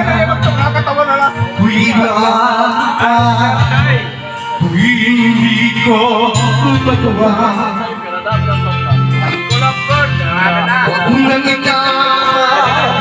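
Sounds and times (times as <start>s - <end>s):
backing music: 0.0s - 13.0s
man singing: 0.0s - 13.0s.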